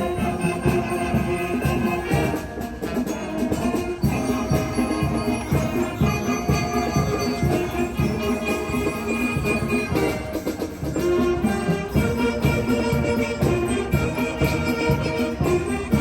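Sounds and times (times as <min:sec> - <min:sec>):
steady drum beat: 0:00.0 - 0:16.0
wind band playing: 0:00.0 - 0:16.0.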